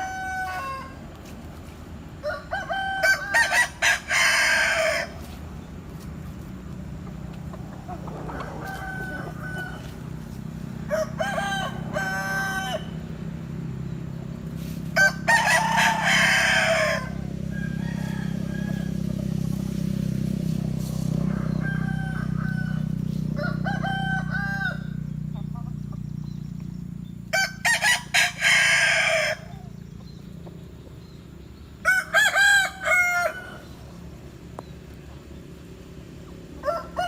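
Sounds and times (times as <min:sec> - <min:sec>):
roosters crowing: 0:00.0 - 0:37.0.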